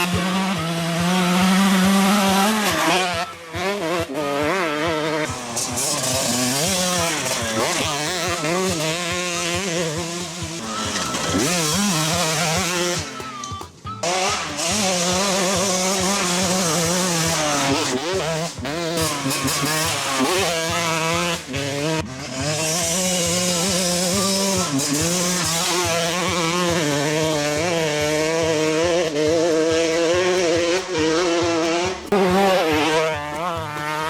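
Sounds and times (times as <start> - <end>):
motocross engine revving: 0.0 - 34.0.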